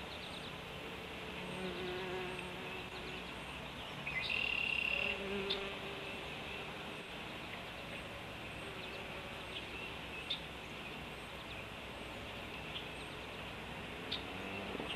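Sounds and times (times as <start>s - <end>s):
outdoor background hiss: 0.0s - 14.9s.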